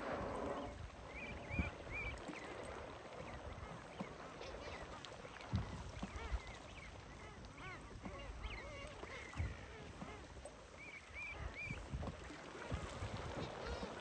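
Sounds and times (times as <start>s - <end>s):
seabirds calling: 0.0s - 14.0s.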